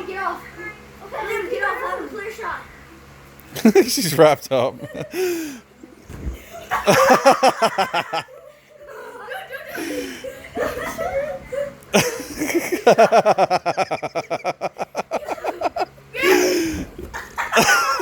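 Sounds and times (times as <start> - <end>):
kids laughing: 1.0 - 18.0.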